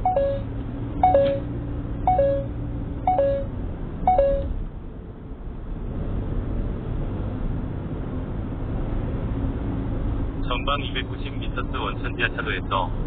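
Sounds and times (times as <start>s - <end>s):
car cabin road noise: 0.0s - 13.0s.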